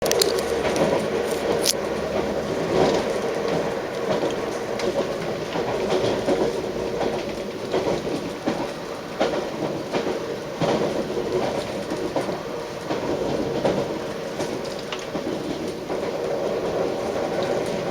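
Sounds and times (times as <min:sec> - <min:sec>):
train rumbling along track: 0:00.0 - 0:17.9
wheels clicking on rails: 0:00.0 - 0:17.9.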